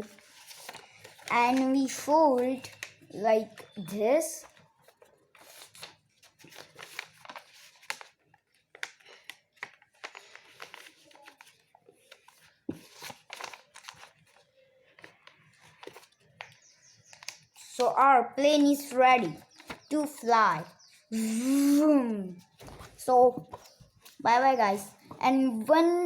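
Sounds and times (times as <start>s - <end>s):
paper rustling and crinkling: 0.0s - 18.0s, 18.6s - 21.3s, 22.3s - 25.3s.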